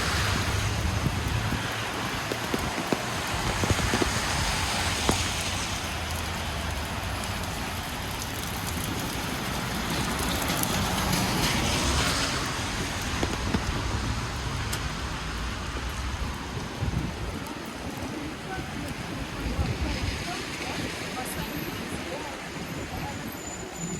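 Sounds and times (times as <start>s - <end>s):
low rumble of engines: 0.0s - 23.9s
steady rain: 0.0s - 23.9s
traffic hissing on wet road: 0.0s - 23.9s.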